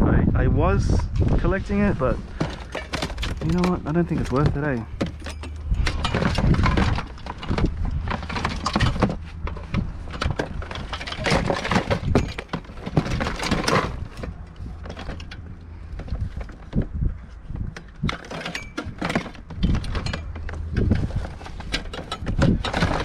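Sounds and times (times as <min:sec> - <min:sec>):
hard objects clattering together: 0:02.1 - 0:17.0, 0:17.6 - 0:23.0.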